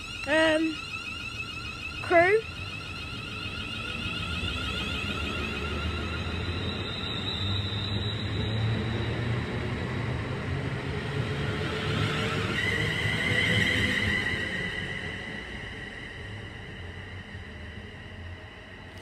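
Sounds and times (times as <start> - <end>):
traction motor whine: 0.0 - 18.2.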